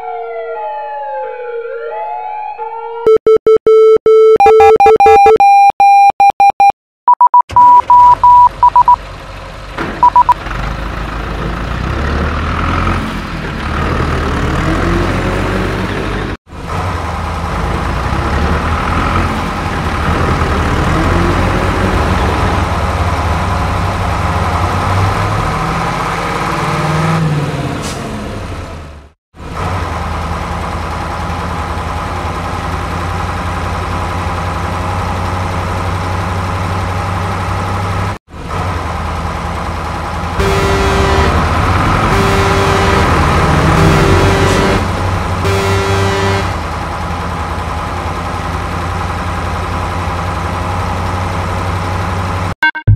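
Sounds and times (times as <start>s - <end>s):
truck engine revving: 7.6s - 52.9s.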